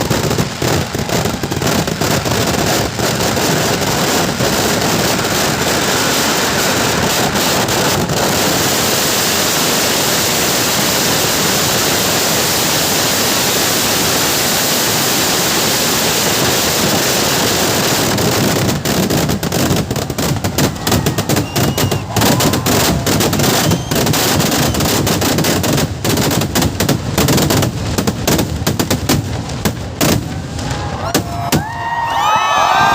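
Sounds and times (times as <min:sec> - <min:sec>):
firecrackers banging: 0:00.0 - 0:32.9.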